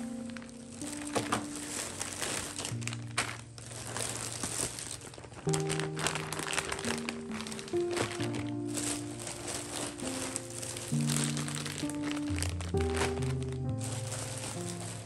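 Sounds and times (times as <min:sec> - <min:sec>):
plastic bags crinkling: 0:00.0 - 0:15.0
soft background music: 0:00.0 - 0:15.0.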